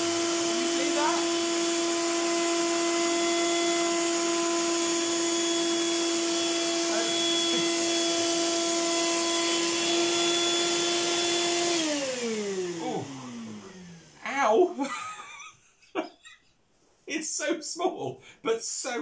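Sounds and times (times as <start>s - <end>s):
vacuum cleaner whine: 0.0s - 15.5s.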